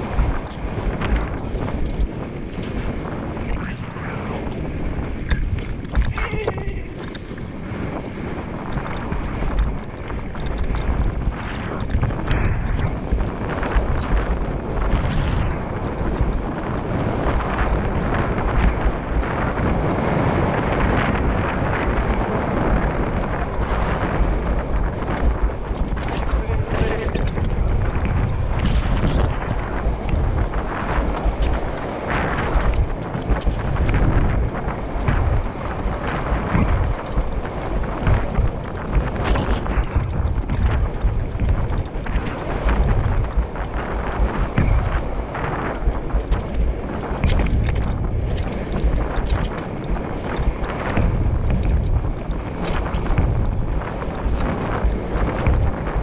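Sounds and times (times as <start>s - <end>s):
bike knocks and rattles: 0.0s - 56.0s
mountain bike rumble on dirt: 0.0s - 56.0s
wind buffeting microphone: 0.0s - 56.0s.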